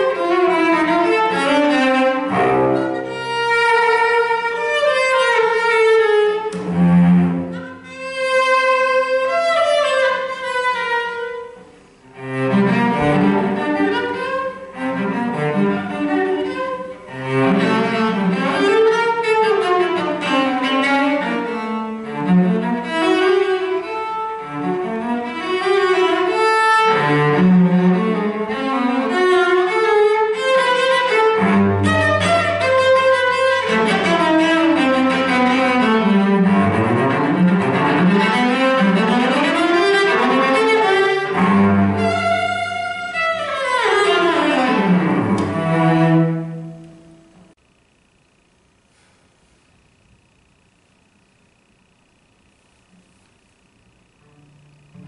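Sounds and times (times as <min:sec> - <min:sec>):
bowed cello arpeggios: 0:00.0 - 0:47.6.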